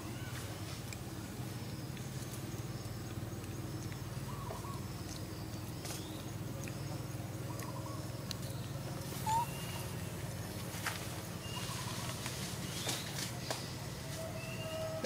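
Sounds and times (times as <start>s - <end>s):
faint chirp: 0.0s - 15.0s
steady low hum: 0.0s - 15.0s.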